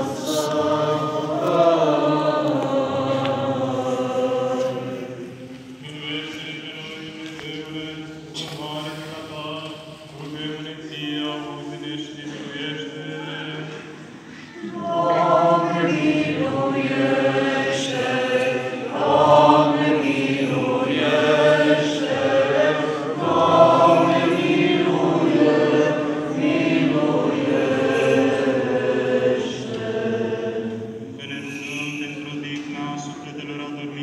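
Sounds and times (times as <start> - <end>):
choir chanting: 0.0 - 34.0.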